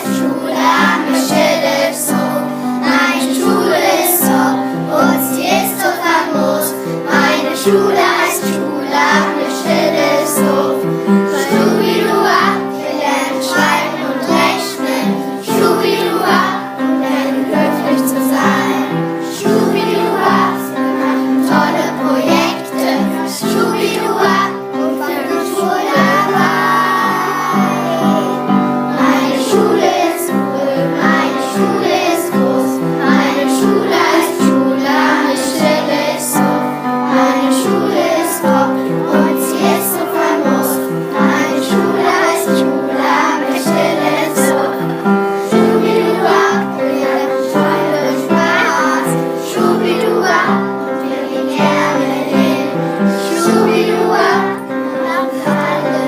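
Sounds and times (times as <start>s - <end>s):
children singing together: 0.0s - 56.0s.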